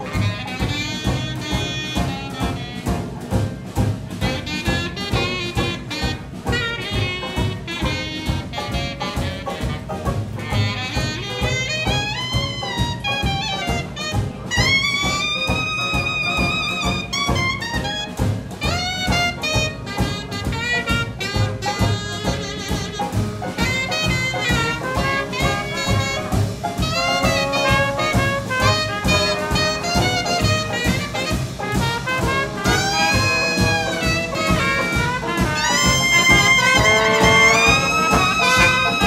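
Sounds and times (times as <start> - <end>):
clarinet: 0.0 - 39.0
jazz band rhythm section: 0.0 - 39.0
trumpet and trombone: 0.0 - 39.0.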